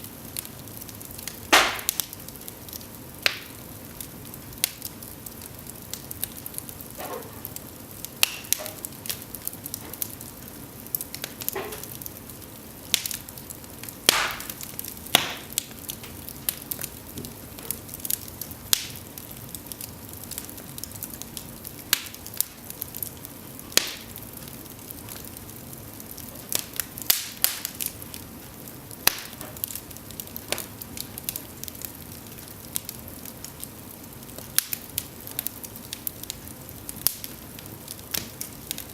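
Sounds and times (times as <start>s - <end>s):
flames hissing: 0.0s - 38.9s
logs crackling and popping: 0.0s - 38.9s
loud fire snaps: 0.0s - 38.9s.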